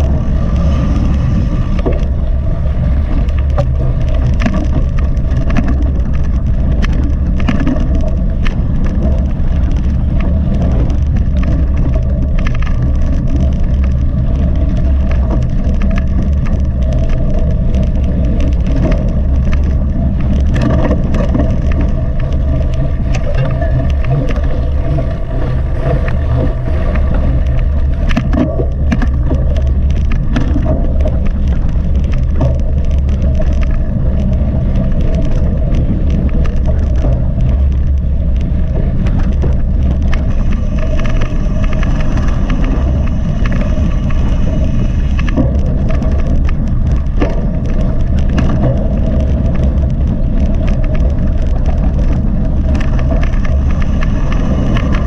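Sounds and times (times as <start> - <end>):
bike clicking and clatter: 0.0 - 55.0
wind rumble on microphone: 0.0 - 55.0.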